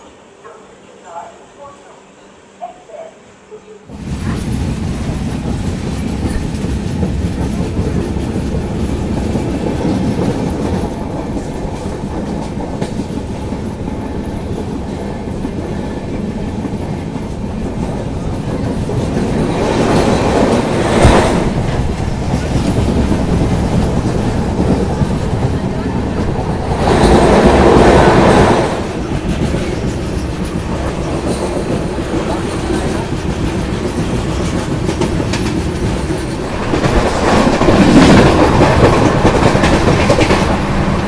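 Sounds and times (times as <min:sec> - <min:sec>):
train wheels clattering over rails: 0:03.9 - 0:41.0.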